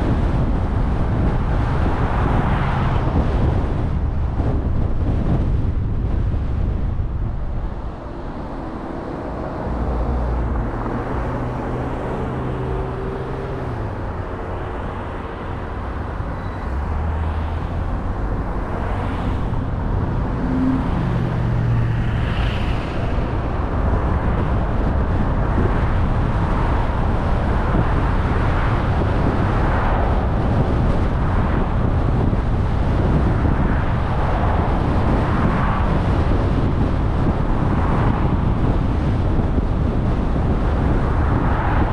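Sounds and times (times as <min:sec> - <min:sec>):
car engine hum: 0:00.0 - 0:41.9
tyre and road noise: 0:00.0 - 0:41.9.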